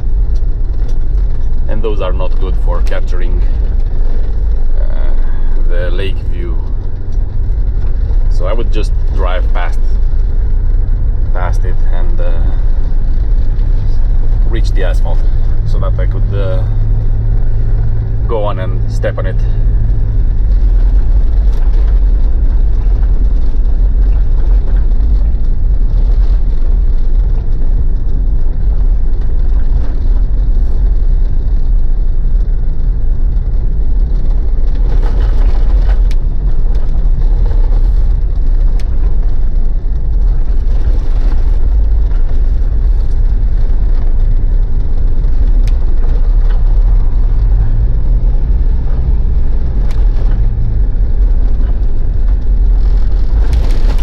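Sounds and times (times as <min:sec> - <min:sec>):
diesel engine running: 0:00.0 - 0:54.0
road and tyre rumble: 0:00.0 - 0:54.0.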